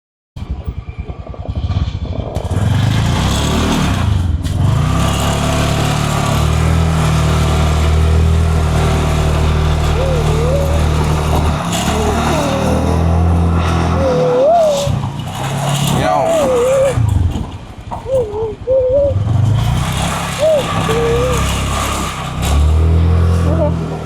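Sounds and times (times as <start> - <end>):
vehicle engine running: 0.4 - 24.0.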